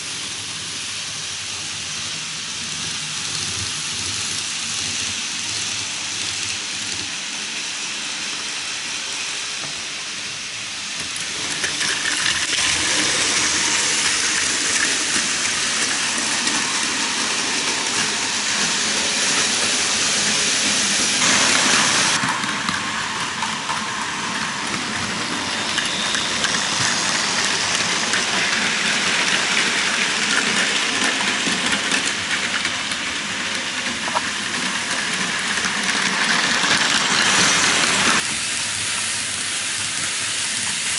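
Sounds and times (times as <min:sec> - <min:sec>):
model trains whirring and rattling: 0:00.0 - 0:40.9.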